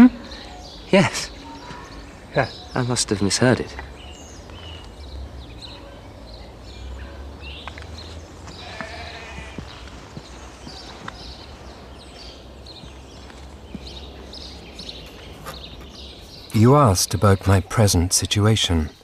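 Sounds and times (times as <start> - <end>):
low rumble of wind: 0.0 - 19.0
high bird chirps: 0.2 - 17.8.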